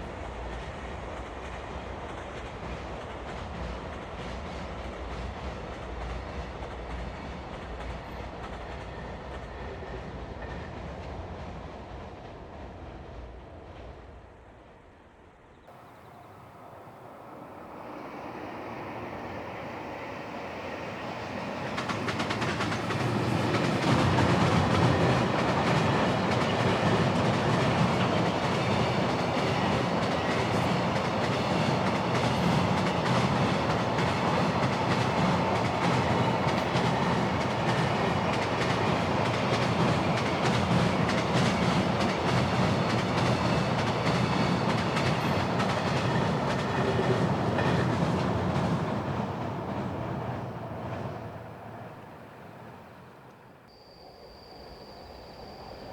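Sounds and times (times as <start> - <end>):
train wheels clattering on rails: 0.0 - 12.5, 15.7 - 53.4.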